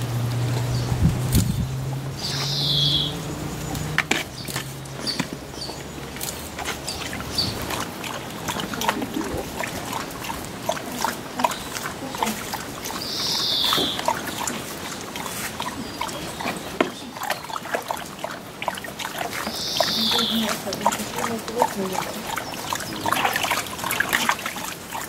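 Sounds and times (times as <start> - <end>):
dogs splashing in water: 0.0 - 25.0.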